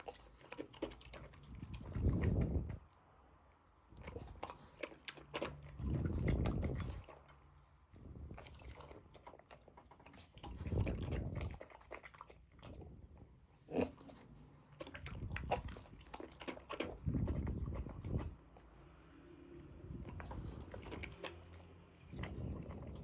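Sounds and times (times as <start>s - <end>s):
dog chewing food: 0.0s - 3.0s, 3.9s - 18.7s, 19.8s - 23.0s.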